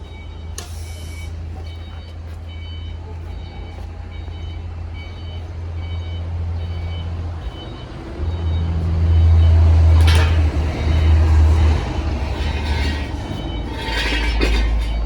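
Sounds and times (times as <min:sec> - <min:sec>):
diesel generator humming: 0:00.0 - 0:15.0.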